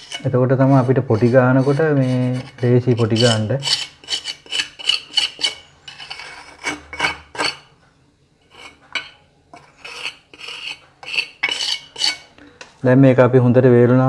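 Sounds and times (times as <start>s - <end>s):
metal tool scraping mortar: 0.0s - 7.8s, 8.4s - 12.4s.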